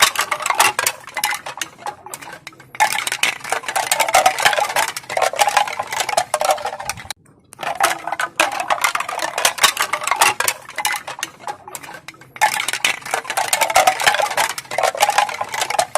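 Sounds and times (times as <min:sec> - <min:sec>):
bamboo pieces clacking together: 0:00.0 - 0:15.9.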